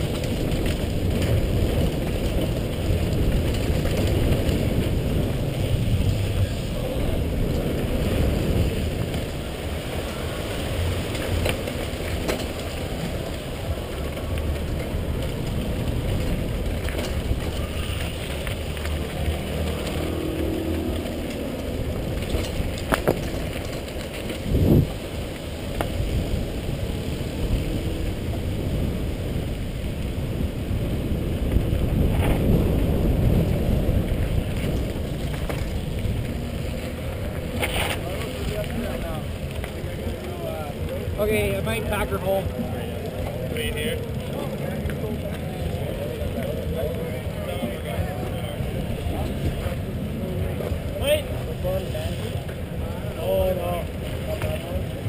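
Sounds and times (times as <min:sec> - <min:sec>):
bike tyres rolling on rocky trail: 0:00.0 - 0:55.0
wind buffeting microphone: 0:00.0 - 0:55.0.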